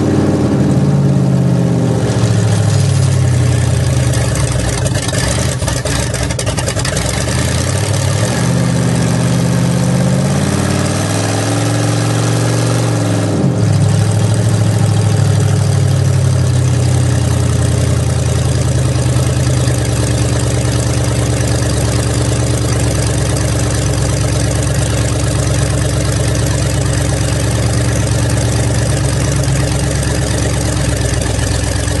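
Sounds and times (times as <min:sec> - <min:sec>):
vee eight engine running steadily: 0:00.0 - 0:32.0.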